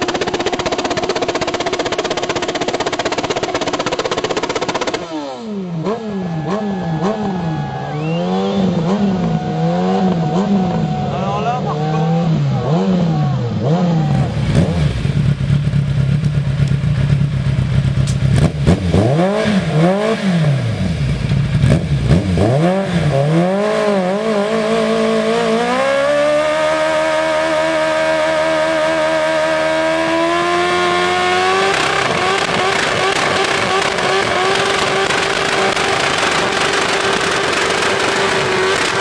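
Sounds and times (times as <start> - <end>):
engine revving with loud exhaust: 0.0 - 39.0.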